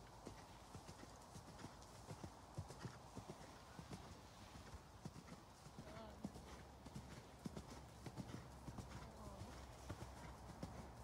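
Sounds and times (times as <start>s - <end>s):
horse hoofbeats on sand: 0.0s - 11.0s.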